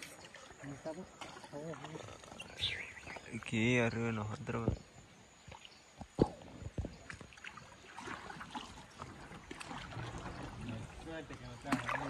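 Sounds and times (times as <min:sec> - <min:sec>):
water lapping around boat: 0:00.0 - 0:12.0.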